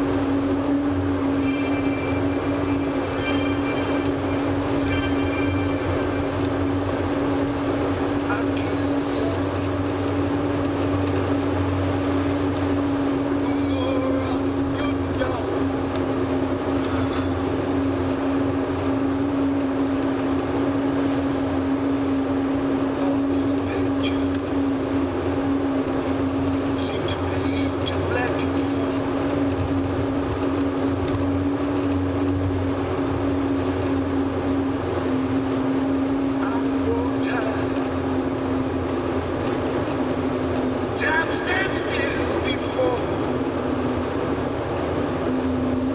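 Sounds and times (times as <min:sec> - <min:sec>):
car driving tyre and engine noise: 0:00.0 - 0:45.9
constant low hum: 0:00.0 - 0:45.9.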